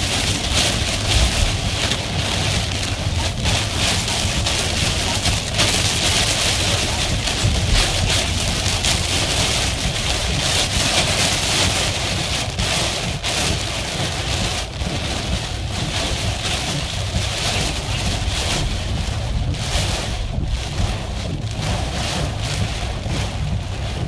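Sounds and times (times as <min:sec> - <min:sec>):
heavy rain on a car: 0:00.0 - 0:24.0.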